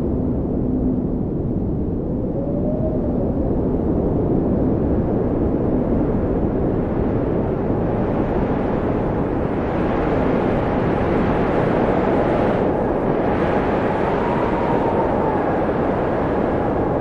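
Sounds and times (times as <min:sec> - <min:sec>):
wind blowing: 0:00.0 - 0:17.0.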